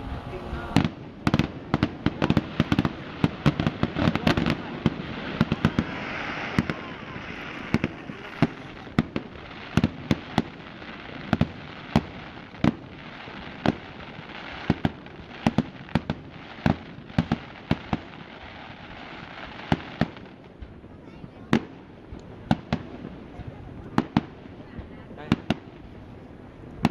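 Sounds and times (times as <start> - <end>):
fireworks crackling hiss: 0.0 - 26.9
fireworks sharp bangs: 0.0 - 26.9.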